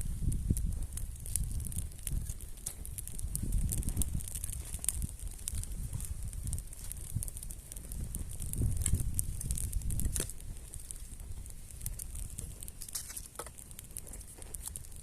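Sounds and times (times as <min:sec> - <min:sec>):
campfire crackling: 0:00.0 - 0:15.0
fire popping: 0:00.0 - 0:15.0.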